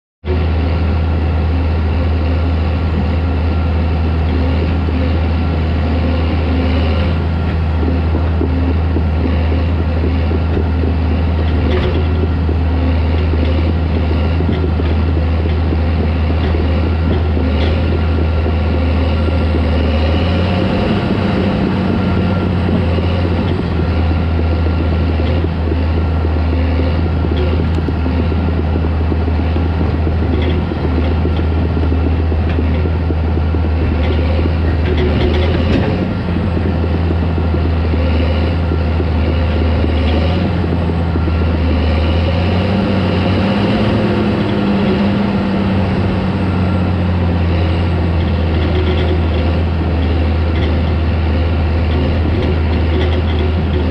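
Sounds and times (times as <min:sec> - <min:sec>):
diesel tractor engine droning: 0:00.2 - 0:53.9.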